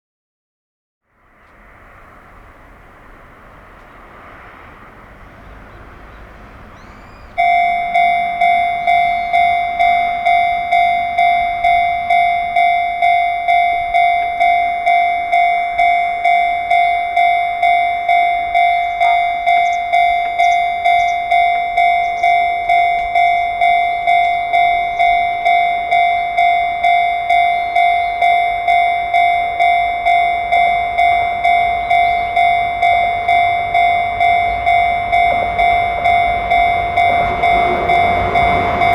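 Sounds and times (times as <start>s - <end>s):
level crossing bell dinging: 7.0s - 38.9s.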